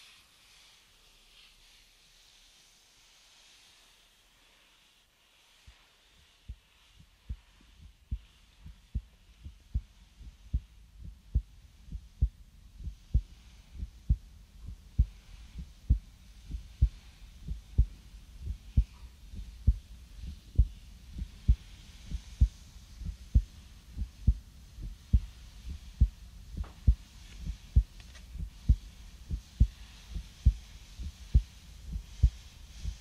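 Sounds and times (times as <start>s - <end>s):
heartbeat thumping: 6.4s - 33.0s.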